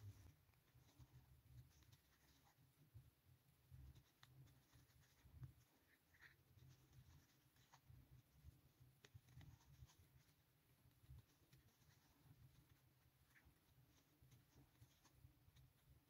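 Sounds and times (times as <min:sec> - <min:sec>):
crochet hook rustling yarn: 0:00.0 - 0:16.0.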